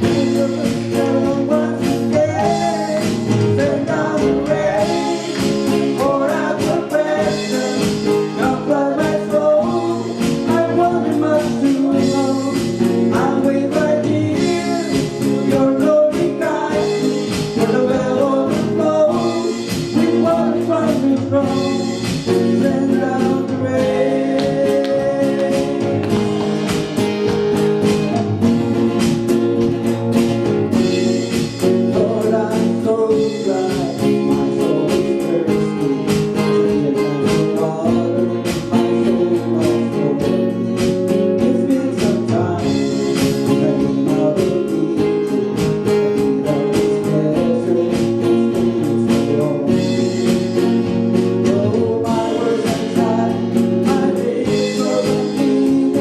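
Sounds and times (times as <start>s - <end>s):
man singing gospel song: 0.0s - 26.6s, 31.6s - 56.0s
guitar accompaniment: 0.0s - 56.0s.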